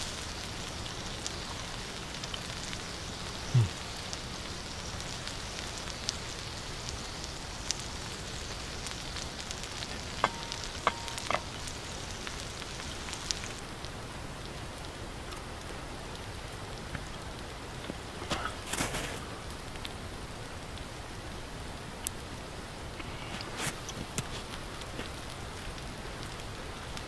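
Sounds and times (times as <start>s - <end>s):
meat sizzling on hot stone: 0.0s - 27.0s.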